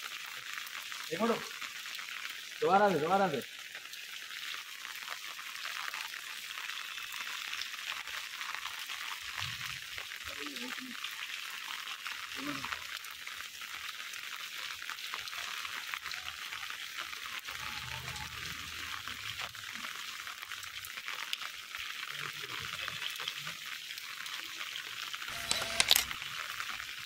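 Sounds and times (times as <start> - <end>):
rain on wet pavement: 0.0 - 25.3.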